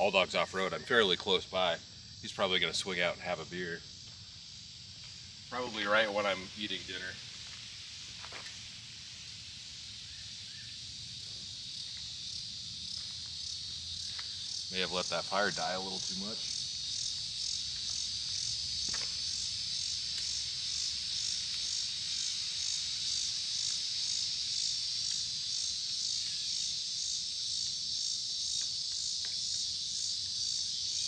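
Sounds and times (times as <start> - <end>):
insect chorus trilling: 0.0 - 31.0.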